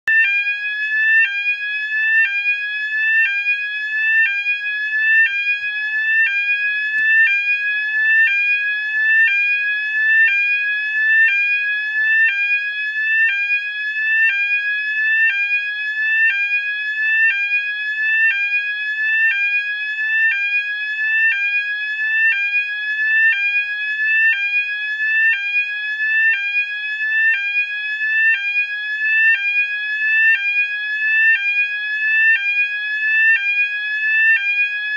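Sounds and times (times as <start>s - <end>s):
fire alarm sweeping tone: 0.1s - 34.9s.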